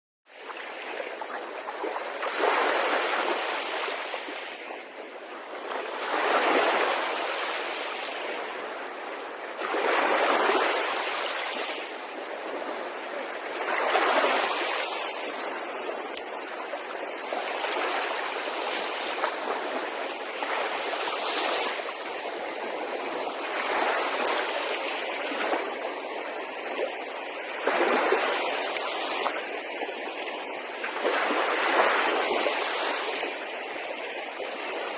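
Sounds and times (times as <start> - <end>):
sea waves washing onto shore: 0.3 - 34.9.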